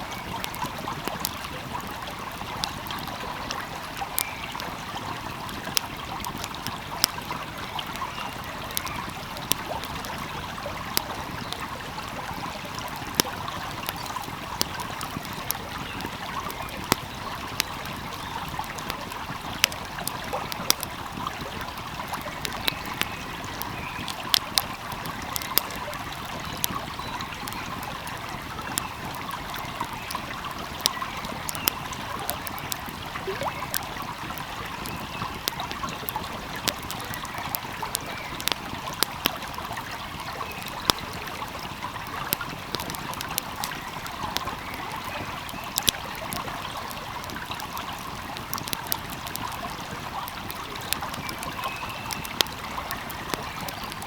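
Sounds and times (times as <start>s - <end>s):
stream flowing: 0.0s - 54.0s
wood fire crackling and popping: 0.0s - 54.0s.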